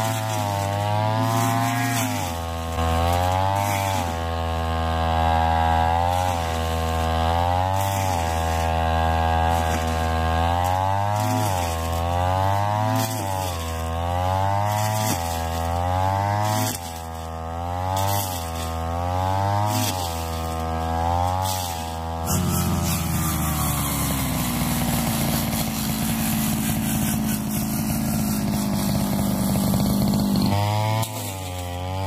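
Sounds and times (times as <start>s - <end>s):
brush cutter engine revving: 0.0s - 32.0s.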